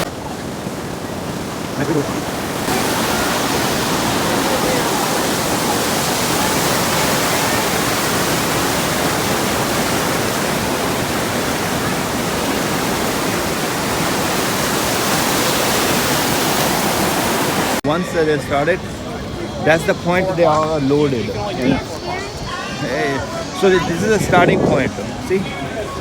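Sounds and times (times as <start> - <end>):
whitewater rapids rushing: 0.0 - 26.0.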